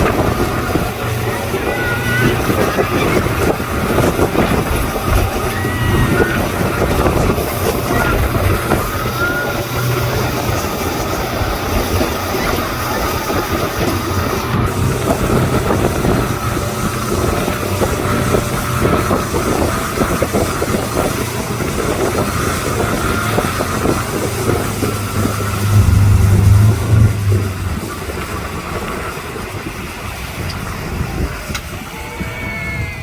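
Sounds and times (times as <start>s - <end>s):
wind and water rushing: 0.0s - 32.8s
speedboat engine running: 0.0s - 33.0s.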